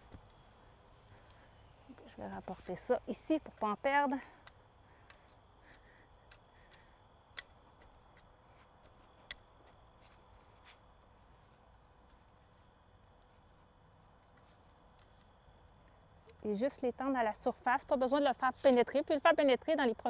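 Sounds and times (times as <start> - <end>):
faint crickets chirping: 0.0 - 20.0.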